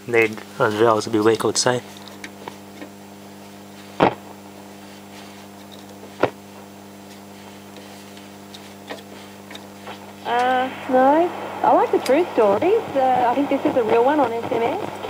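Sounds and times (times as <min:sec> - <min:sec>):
faint radio hiss: 0:00.0 - 0:15.0
radio mains hum: 0:00.0 - 0:15.0
sharp radio crackles: 0:02.3 - 0:07.8, 0:08.4 - 0:15.0.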